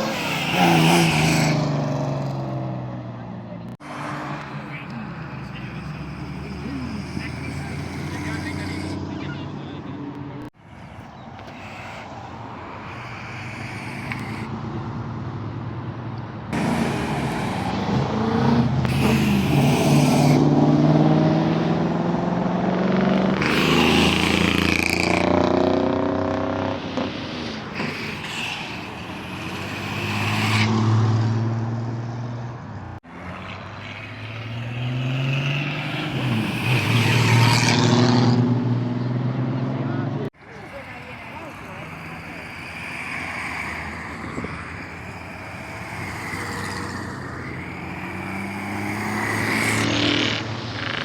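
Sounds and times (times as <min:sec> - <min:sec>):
car engines revving and accelerating: 0:00.0 - 0:51.0
motorcycle engines accelerating: 0:00.0 - 0:51.0.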